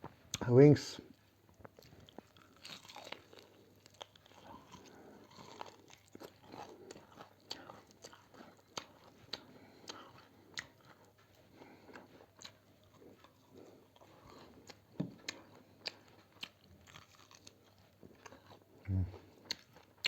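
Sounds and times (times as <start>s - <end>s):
person chewing food: 1.1s - 20.0s.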